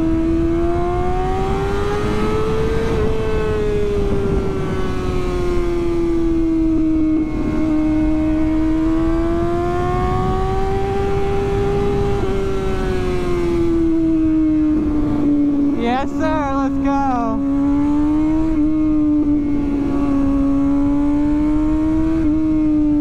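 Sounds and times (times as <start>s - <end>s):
motorcycle engine revving: 0.0s - 16.1s, 17.3s - 23.0s.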